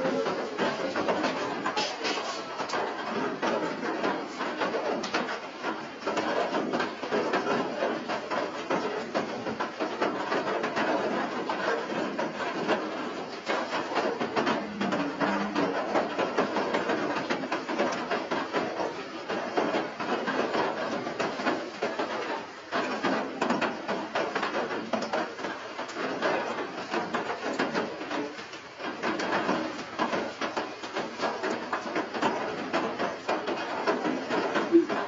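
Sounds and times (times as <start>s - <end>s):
rain pattering: 0.0s - 35.0s.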